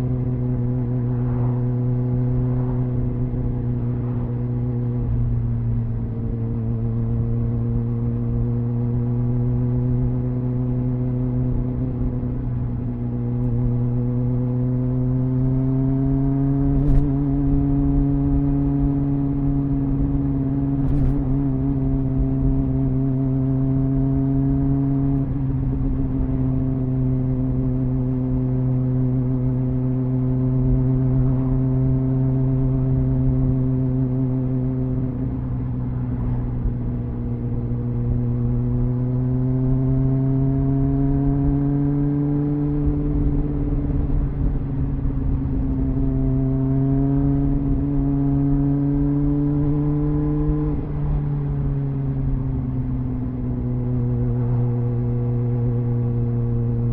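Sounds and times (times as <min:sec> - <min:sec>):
motorcycle engine cruising: 0:00.0 - 0:56.9.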